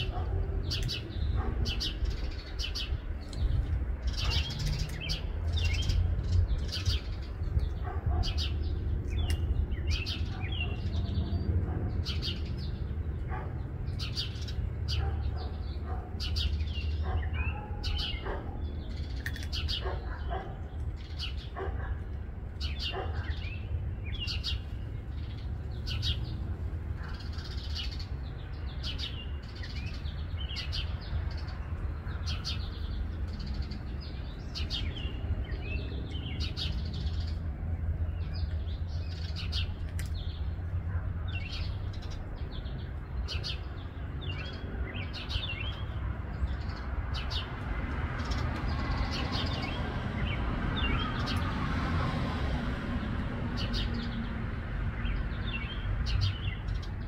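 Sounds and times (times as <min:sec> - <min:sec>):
small birds chirping: 0:00.0 - 0:51.6, 0:53.1 - 0:57.0.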